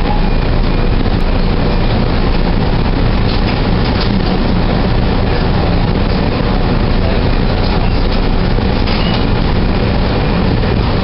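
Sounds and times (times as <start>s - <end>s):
rumble and hiss inside train car: 0.0s - 11.0s.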